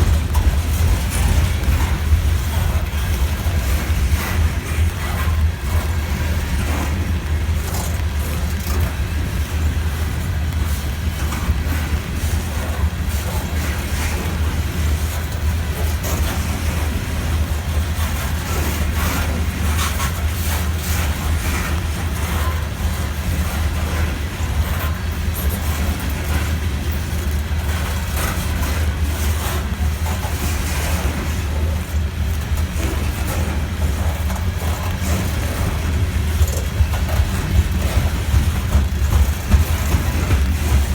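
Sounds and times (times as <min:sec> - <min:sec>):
freight train rumbling past: 0:00.0 - 0:40.9
wheels clattering on rails: 0:00.0 - 0:40.9.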